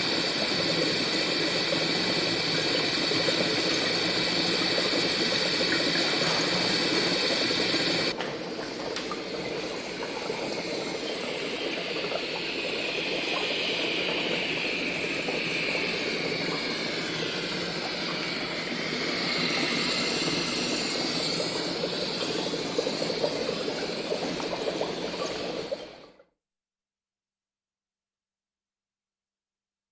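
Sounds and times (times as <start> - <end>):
watery bubbling and hissing: 0.0 - 26.2.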